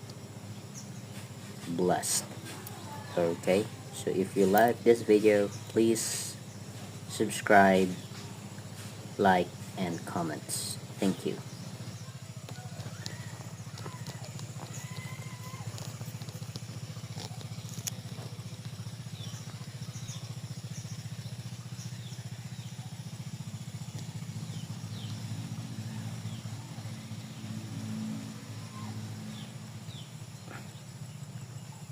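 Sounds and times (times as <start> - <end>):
small engine droning: 0.0 - 31.9.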